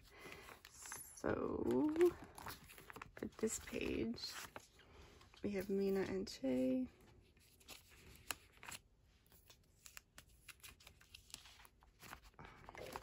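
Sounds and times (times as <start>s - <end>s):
faint plastic rustling: 0.0s - 13.0s.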